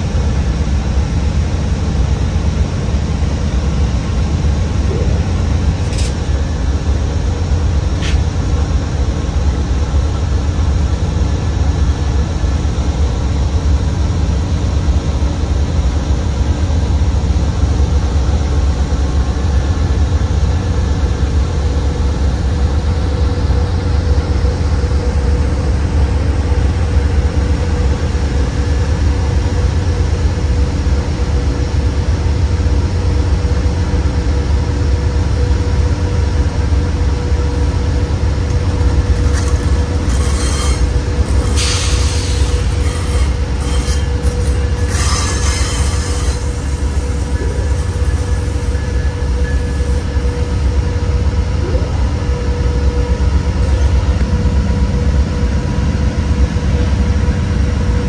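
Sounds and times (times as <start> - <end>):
diesel locomotive idling: 0.0 - 58.0.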